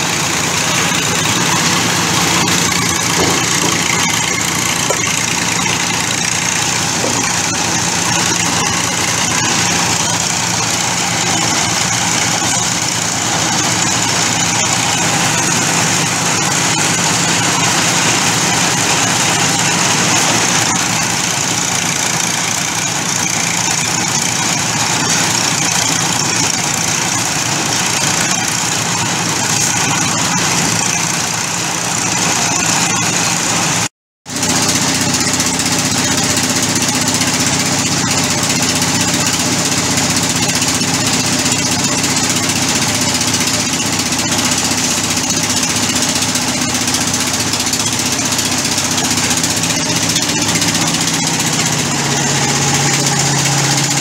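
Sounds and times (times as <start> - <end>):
concrete mixer engine knocking: 0.0 - 54.0.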